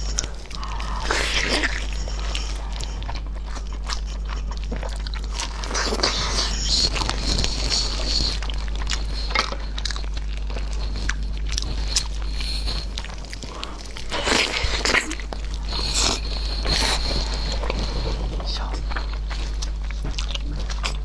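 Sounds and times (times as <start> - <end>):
wet biting and chewing: 0.0 - 21.0.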